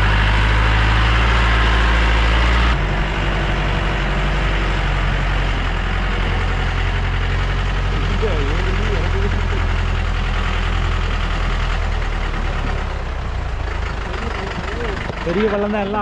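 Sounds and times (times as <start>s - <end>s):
road and rattle noise: 0.0s - 16.0s
vehicle engine droning: 0.0s - 16.0s.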